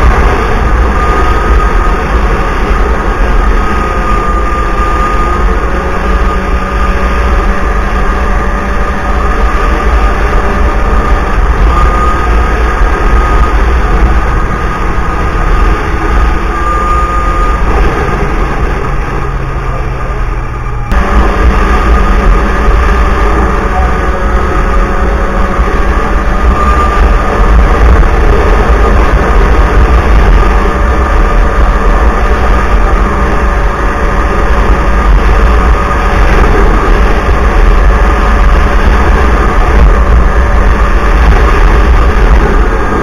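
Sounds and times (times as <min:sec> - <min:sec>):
snowmobile engine running: 0:00.0 - 0:43.0.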